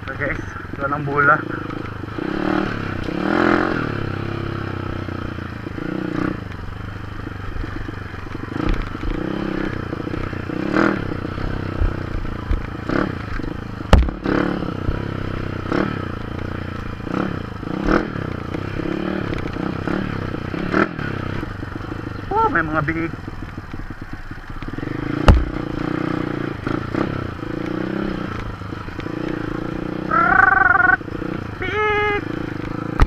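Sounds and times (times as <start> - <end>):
motorcycle engine revving: 0.0 - 33.0
motorcycle rattling over rough ground: 0.0 - 33.0.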